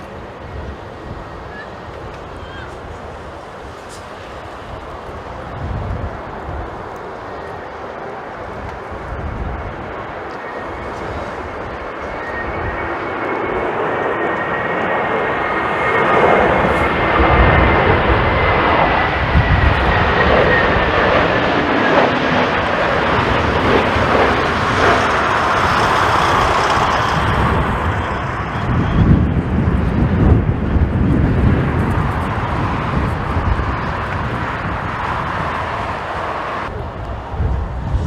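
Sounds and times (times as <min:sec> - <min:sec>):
jet airliner passing low: 0:00.0 - 0:38.0.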